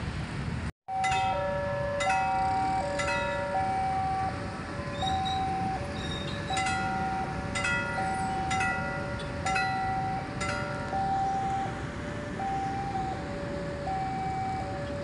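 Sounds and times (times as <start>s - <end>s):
electronic two-tone alarm: 0.9s - 11.8s, 12.4s - 15.0s.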